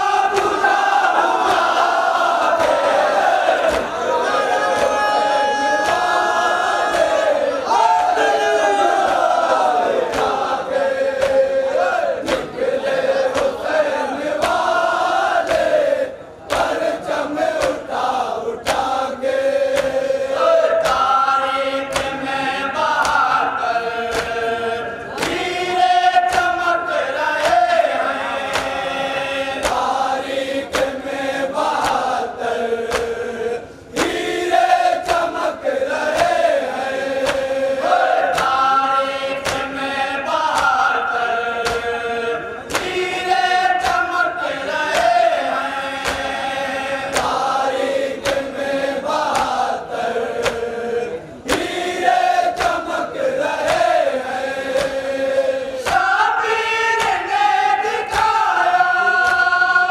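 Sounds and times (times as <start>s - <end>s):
men chanting a lament: 0.0s - 59.9s
rhythmic chest-beating slaps: 0.0s - 59.9s.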